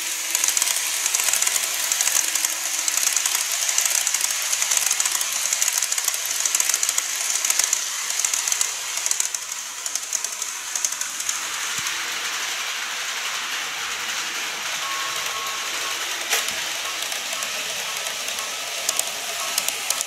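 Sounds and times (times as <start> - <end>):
high hiss of running gear: 0.0 - 20.0
model train wheels clicking: 0.0 - 20.0.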